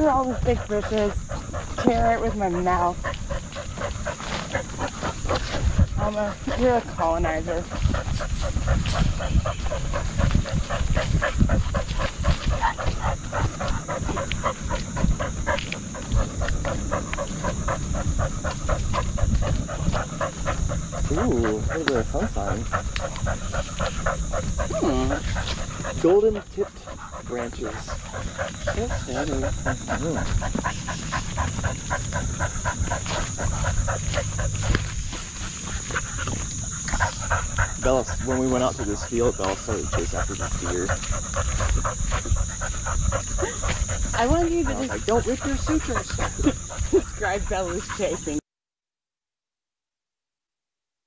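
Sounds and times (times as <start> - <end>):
low rumble of movement: 0.0 - 48.3
dog panting: 0.0 - 48.4.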